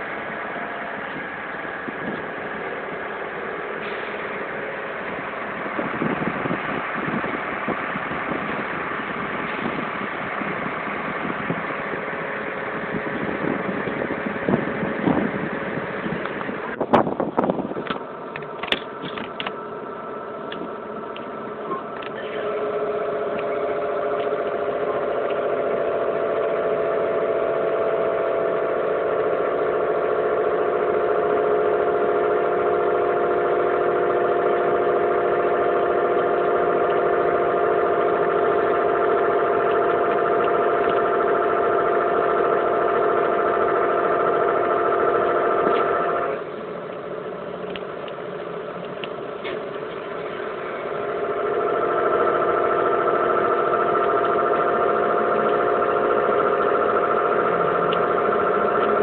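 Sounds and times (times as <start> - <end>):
steady whining drone: 0.0 - 59.0
truck engine and hydraulics: 0.0 - 59.0.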